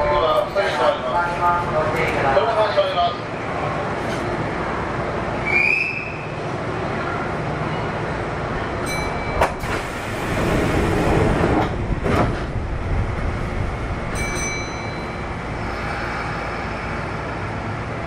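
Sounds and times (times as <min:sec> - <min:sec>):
train interior rumble: 0:00.0 - 0:18.0.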